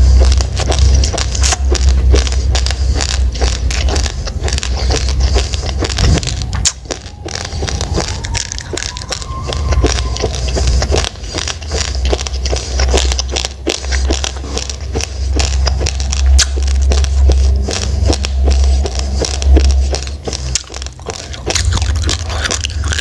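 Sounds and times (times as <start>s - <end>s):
crunching of chewed rice: 0.0s - 23.0s
low rumble: 0.0s - 23.0s.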